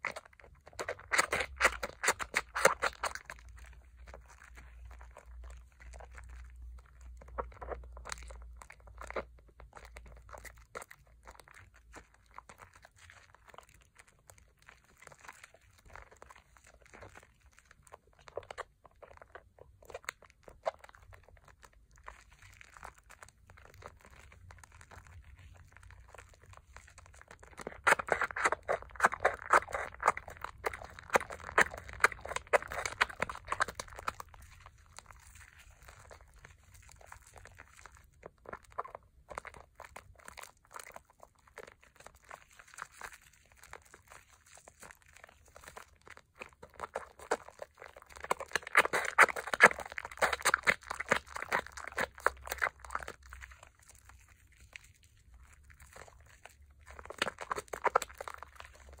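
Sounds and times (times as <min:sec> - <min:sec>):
foam bubbles crackling: 0:00.0 - 0:59.0
hands squishing soap lather: 0:00.0 - 0:59.0.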